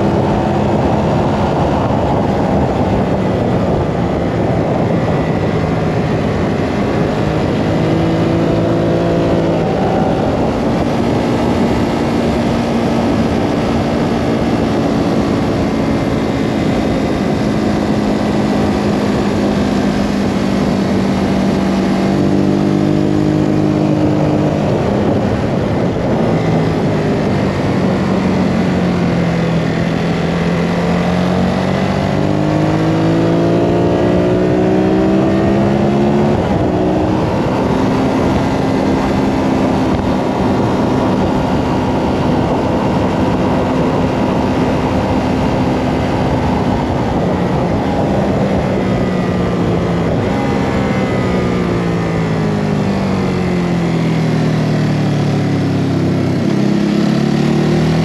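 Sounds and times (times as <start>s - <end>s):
motorcycle engine at speed: 0.0s - 58.0s
wind rush: 0.0s - 58.0s.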